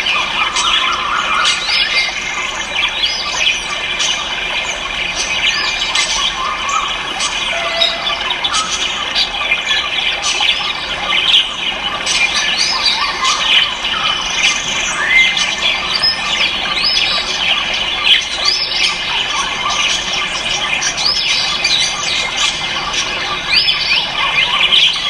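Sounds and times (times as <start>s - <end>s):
chorus of caged birds calling: 0.0s - 25.0s.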